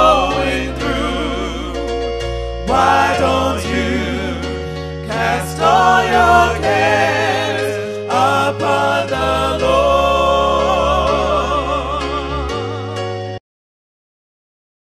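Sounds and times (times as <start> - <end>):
bass line: 0.0 - 13.4
gospel choir singing: 0.0 - 13.4.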